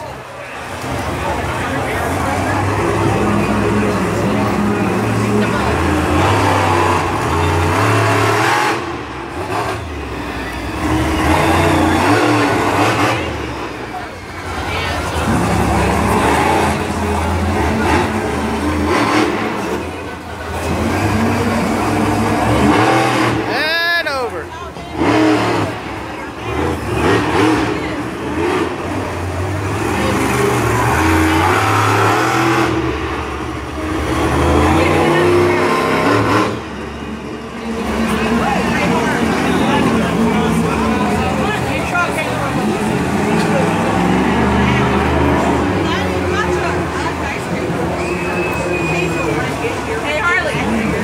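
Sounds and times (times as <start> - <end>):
racing engine running hard: 0.0 - 51.0.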